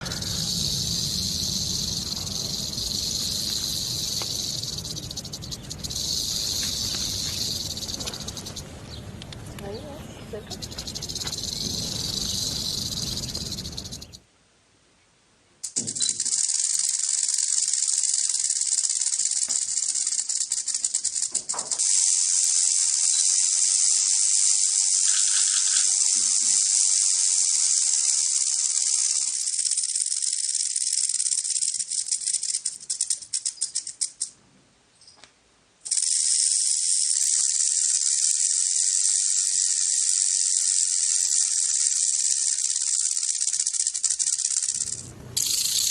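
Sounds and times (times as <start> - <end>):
rattlesnake tail rattling: 0.0 - 14.2, 15.6 - 34.4, 35.8 - 45.9.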